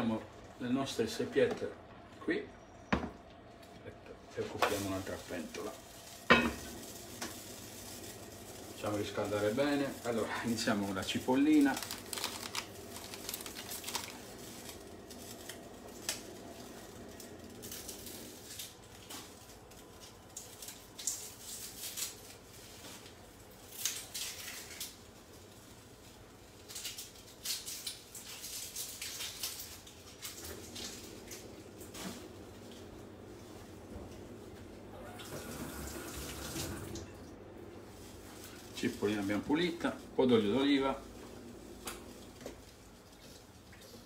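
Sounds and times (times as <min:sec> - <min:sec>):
onion skin rustling: 0:04.4 - 0:34.5, 0:37.8 - 0:44.0.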